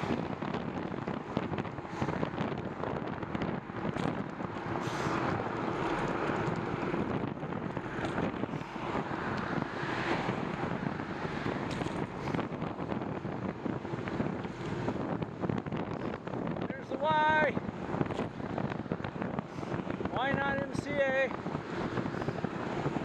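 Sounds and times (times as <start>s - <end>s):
traffic: 0.0s - 23.0s
tyre and road noise: 0.0s - 23.0s
wind rushing over microphone: 0.0s - 23.0s.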